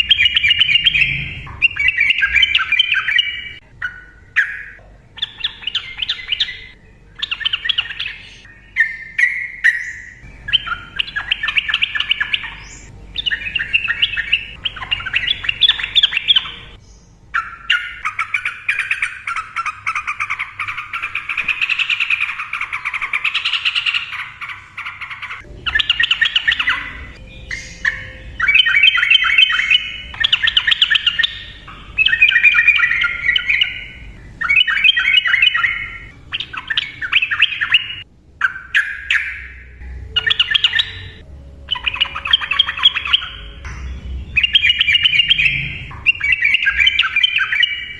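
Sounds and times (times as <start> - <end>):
bird chattering song: 0.0 - 47.9.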